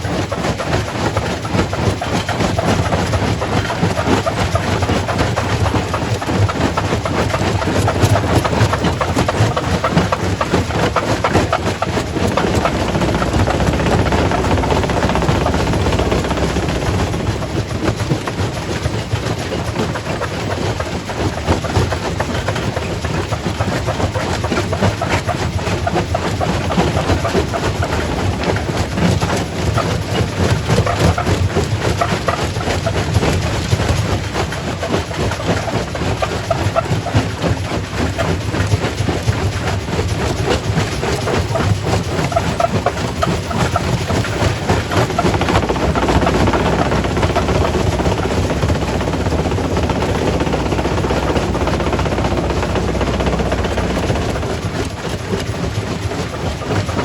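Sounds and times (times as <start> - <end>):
heavy machine rumble: 0.0 - 38.2, 39.8 - 57.0.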